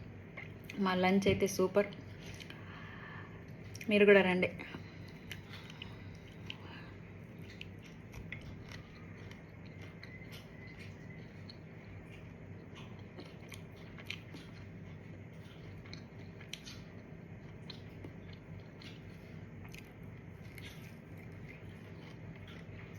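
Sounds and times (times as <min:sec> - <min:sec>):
steady low hum: 0:00.0 - 0:22.9
person chewing and crunching: 0:02.0 - 0:03.9, 0:04.8 - 0:22.9.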